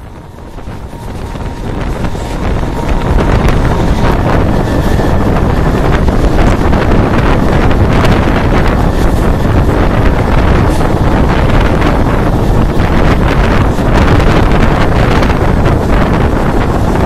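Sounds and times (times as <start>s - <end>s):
train running on rails: 0.0s - 17.0s
wind buffeting microphone: 0.0s - 17.0s.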